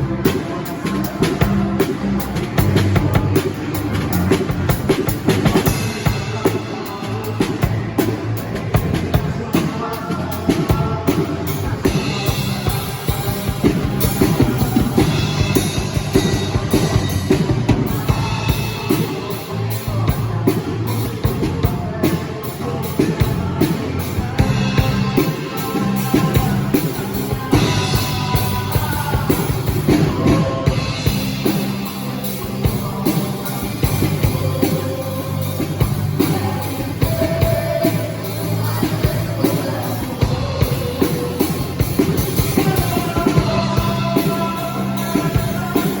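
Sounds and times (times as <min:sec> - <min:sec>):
band playing worship song: 0:00.0 - 0:46.0
drum kit beat: 0:00.0 - 0:46.0.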